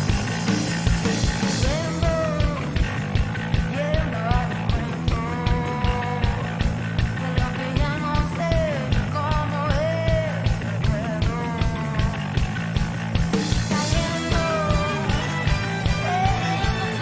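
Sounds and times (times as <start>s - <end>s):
live rock band: 0.0s - 17.0s
lead vocal singing: 1.5s - 12.3s, 13.6s - 17.0s.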